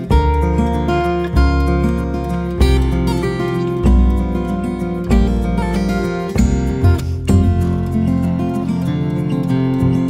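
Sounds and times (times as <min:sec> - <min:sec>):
strummed acoustic guitar music: 0:00.0 - 0:10.0.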